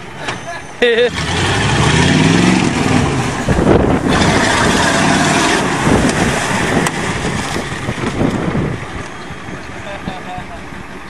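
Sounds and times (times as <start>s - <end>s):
diesel truck engine under load: 0.0s - 11.0s
rush of road noise: 0.0s - 11.0s.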